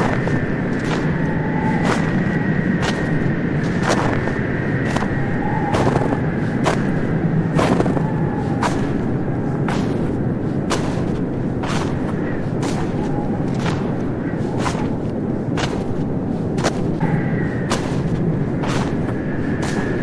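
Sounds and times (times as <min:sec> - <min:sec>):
footsteps crunching in snow: 0:00.0 - 0:20.0
steady low rumble: 0:00.0 - 0:20.0.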